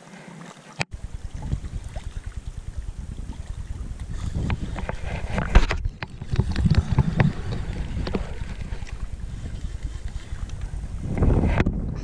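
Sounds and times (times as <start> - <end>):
wind buffeting microphone: 0.9 - 12.0.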